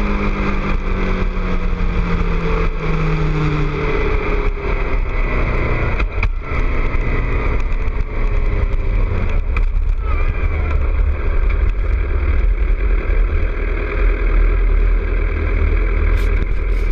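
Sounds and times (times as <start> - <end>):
motorcycle engine riding: 0.0 - 16.9
wind rumbling on microphone: 0.0 - 16.9.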